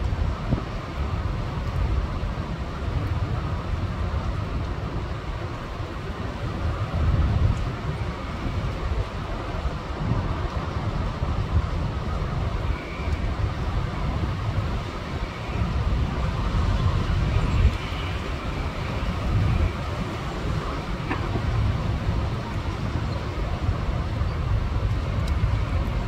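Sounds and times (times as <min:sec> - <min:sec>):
storm wind buffeting microphone: 0:00.0 - 0:26.0.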